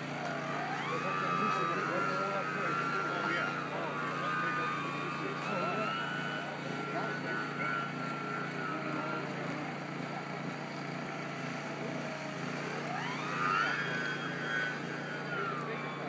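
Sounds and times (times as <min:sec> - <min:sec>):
model plane motor whining: 0:00.0 - 0:16.0
steady low hum: 0:00.0 - 0:16.0.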